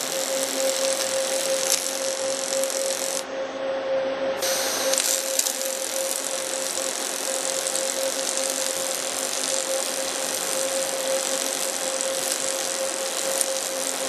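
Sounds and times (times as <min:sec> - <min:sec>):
welding arc crackling hiss: 0:00.0 - 0:03.2, 0:04.4 - 0:14.0
constant buzzing tone: 0:00.0 - 0:03.3, 0:04.4 - 0:14.0.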